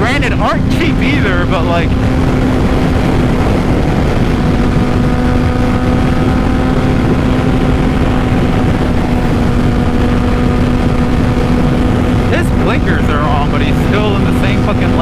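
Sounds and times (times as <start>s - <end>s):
motorcycle engine cruising: 0.0s - 15.0s
wind rush: 0.0s - 15.0s.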